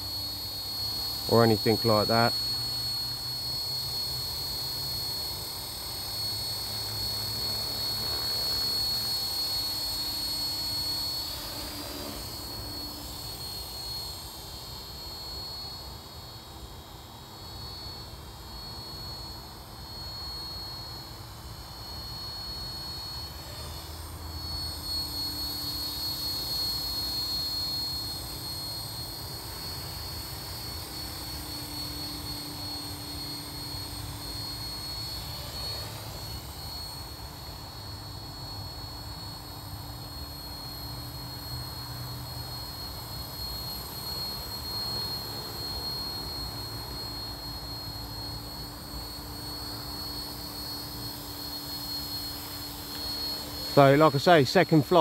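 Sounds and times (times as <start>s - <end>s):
rc helicopter high-pitched whine: 0.0s - 55.0s.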